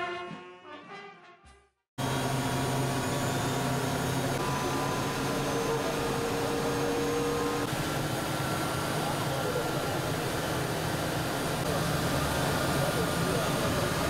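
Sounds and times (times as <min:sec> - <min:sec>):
engines running: 0:02.0 - 0:14.0.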